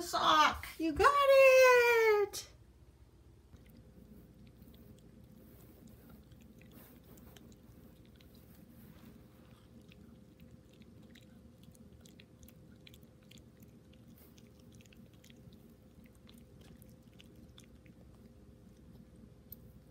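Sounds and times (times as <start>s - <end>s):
low room hum: 0.0s - 19.9s
dog chewing clicks: 3.5s - 19.7s.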